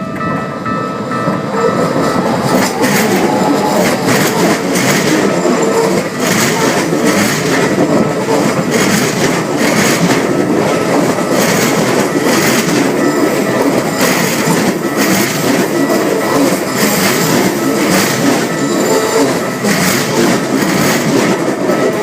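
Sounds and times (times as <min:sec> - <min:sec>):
electric train passing: 0:00.0 - 0:22.0
train wheels clattering over rail joints: 0:01.3 - 0:22.0.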